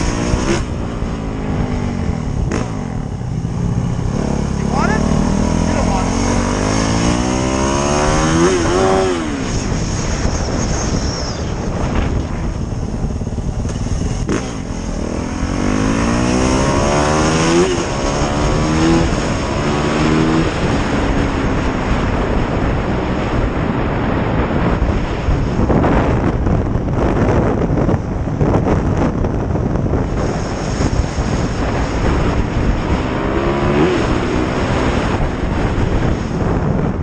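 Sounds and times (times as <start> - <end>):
motorcycle engine accelerating: 0.0 - 37.0
wind and road noise: 0.0 - 37.0.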